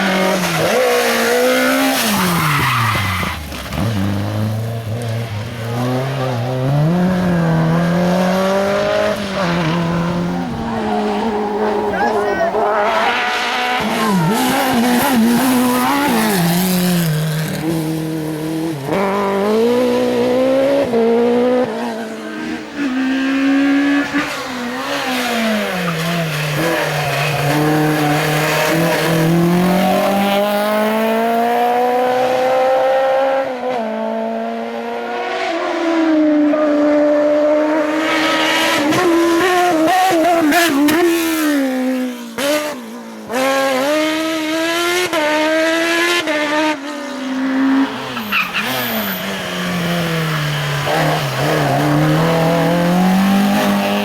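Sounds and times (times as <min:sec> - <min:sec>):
car engine revving hard: 0:05.7 - 0:54.0.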